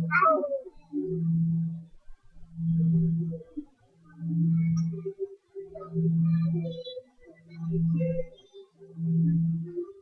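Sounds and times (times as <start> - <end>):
faint higher notes: 0.0 - 10.0.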